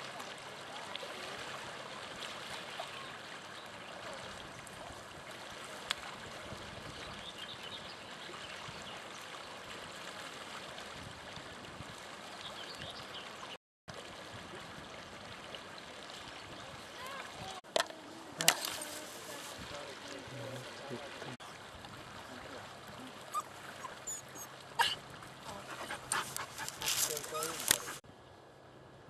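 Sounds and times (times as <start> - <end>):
rushing water: 0.0 - 28.9
wind: 0.0 - 29.0.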